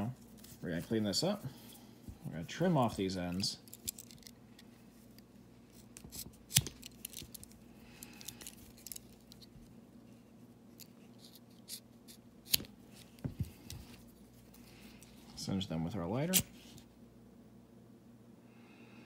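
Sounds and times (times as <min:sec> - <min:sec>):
quiet handling: 0:00.0 - 0:16.9.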